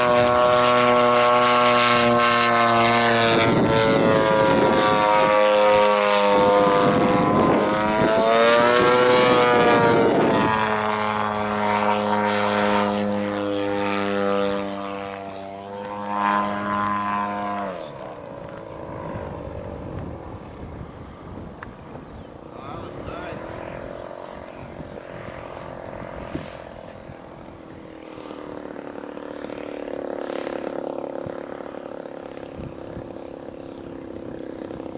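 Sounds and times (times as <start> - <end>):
model plane engine and propeller: 0.0 - 34.9.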